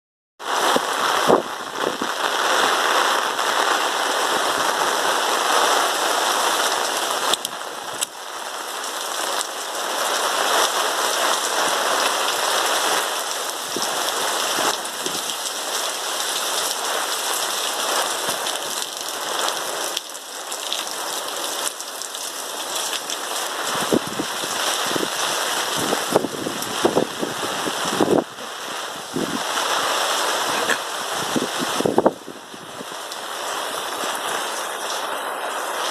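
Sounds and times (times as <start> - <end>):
heavy rain on hard surfaces: 0.4 - 35.9.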